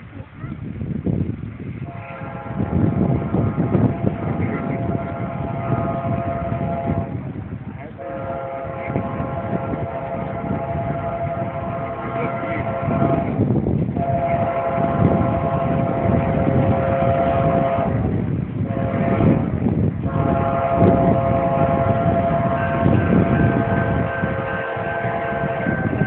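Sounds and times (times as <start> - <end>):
low rumble of passing train: 0.0 - 26.0
locomotive air horn blasts: 1.8 - 7.2, 8.0 - 26.0.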